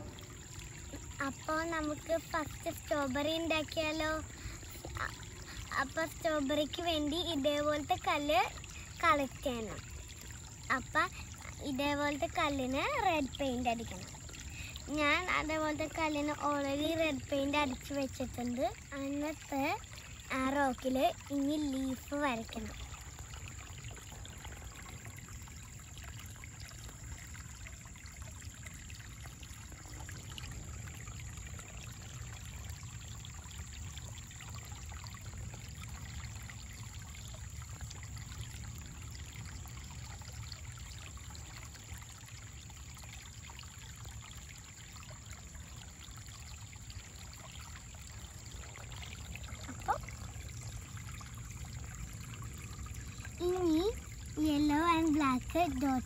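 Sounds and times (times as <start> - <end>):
creek trickling over stones: 0.0 - 56.0.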